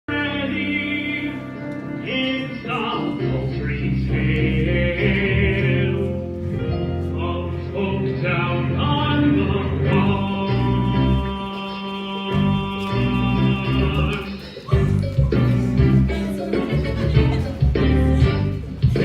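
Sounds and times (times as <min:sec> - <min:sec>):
musical theatre song recording: 0:00.1 - 0:19.0.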